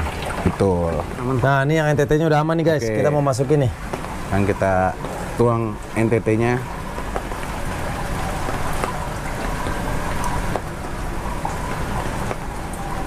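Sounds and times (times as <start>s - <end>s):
aquarium water splashing and bubbling: 0.0s - 13.0s.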